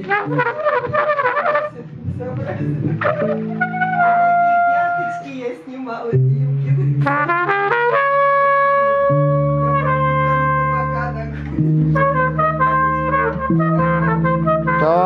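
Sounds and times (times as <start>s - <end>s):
trumpet playing: 0.0s - 1.9s, 2.6s - 5.5s, 7.0s - 15.0s
electric bass guitar notes: 0.0s - 5.3s, 6.2s - 15.0s.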